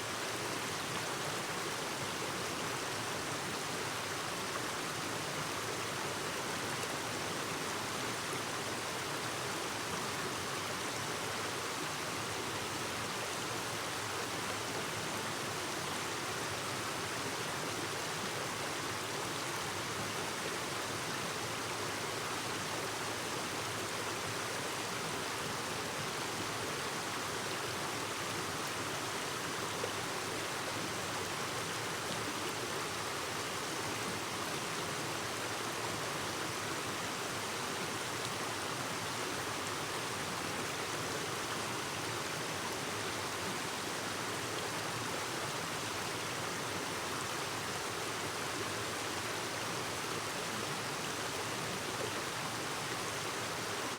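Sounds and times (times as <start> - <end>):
stream babbling over rocks: 0.1 - 53.9.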